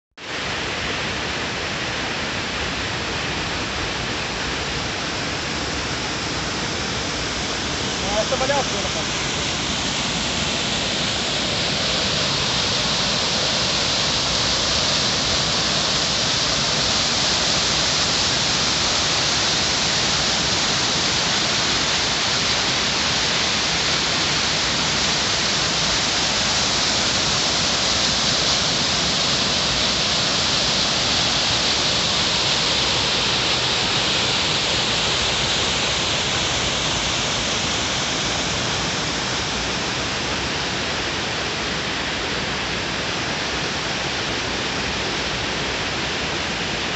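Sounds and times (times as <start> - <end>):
water rushing over rock: 0.2 - 46.9.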